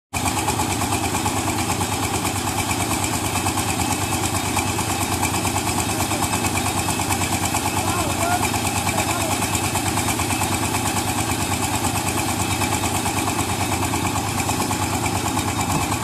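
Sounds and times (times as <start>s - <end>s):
harvester engine idling: 0.2s - 16.0s.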